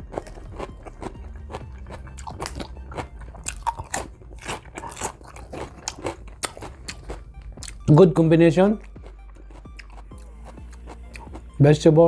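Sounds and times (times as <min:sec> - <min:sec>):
wet chewing with mouth clicks: 0:00.0 - 0:08.0, 0:08.7 - 0:11.5.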